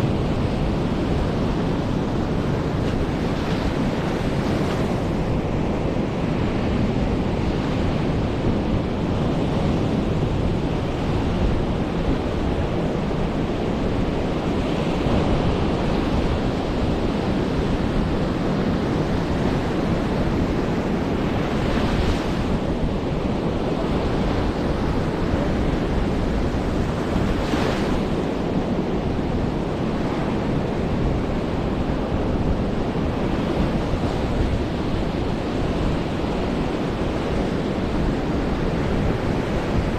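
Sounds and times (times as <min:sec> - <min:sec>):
surf washing up beach: 0:00.0 - 0:39.9
wind buffeting microphone: 0:00.0 - 0:39.9.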